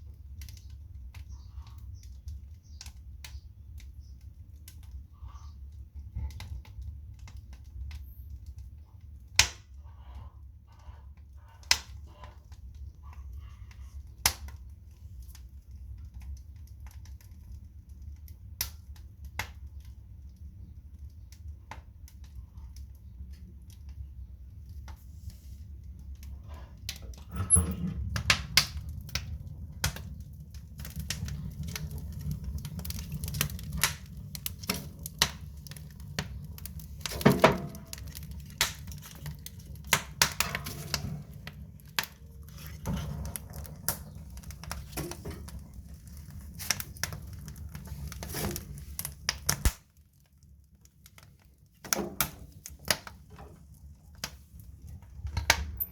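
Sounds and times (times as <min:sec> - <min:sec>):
low fire rumble: 0:00.0 - 0:55.9
wood fire crackling and popping: 0:00.0 - 0:55.9.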